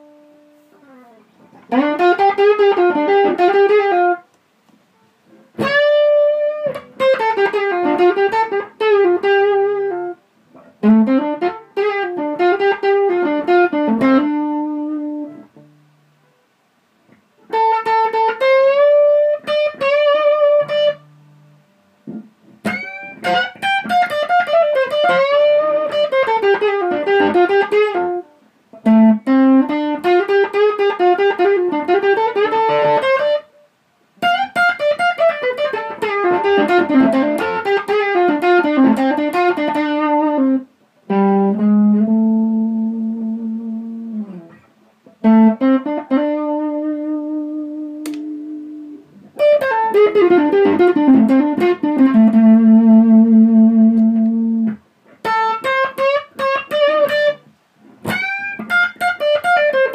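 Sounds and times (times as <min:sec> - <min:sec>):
overdriven electric guitar lead: 0:00.0 - 0:04.2, 0:05.5 - 0:15.7, 0:17.5 - 0:33.6, 0:34.2 - 0:59.9.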